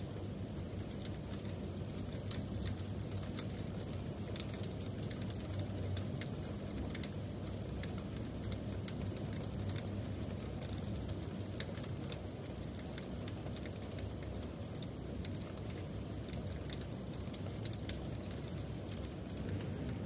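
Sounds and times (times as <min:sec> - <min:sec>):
rain falling: 0:00.0 - 0:20.0
raindrops ticking sharply: 0:00.0 - 0:20.0.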